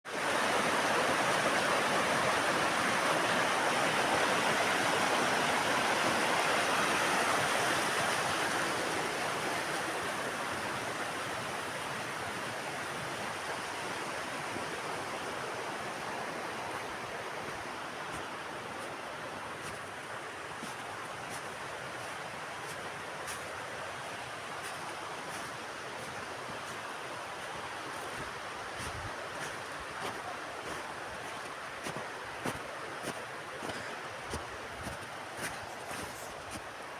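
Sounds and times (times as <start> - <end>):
river rushing: 0.1 - 36.9.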